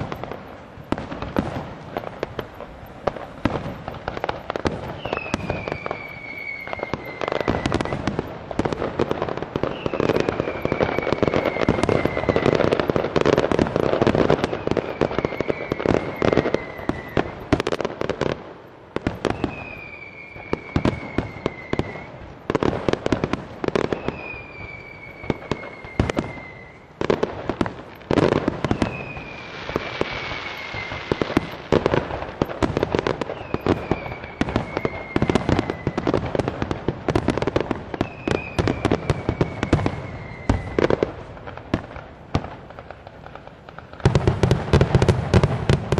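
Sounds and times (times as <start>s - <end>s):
falling firework whistle: 0.0s - 45.9s
fireworks bangs and crackles: 0.0s - 45.9s.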